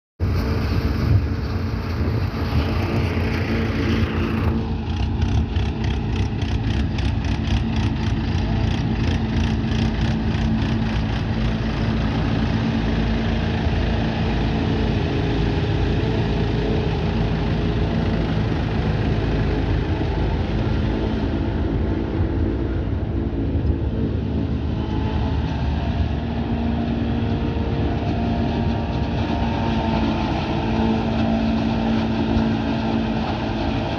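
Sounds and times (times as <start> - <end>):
farm machinery engine: 0.2 - 33.9.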